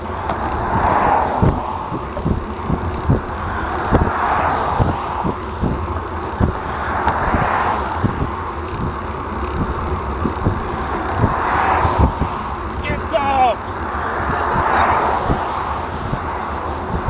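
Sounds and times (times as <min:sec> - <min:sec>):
car passing with tyre noise: 0:00.0 - 0:17.0
wind buffeting microphone: 0:00.0 - 0:17.0.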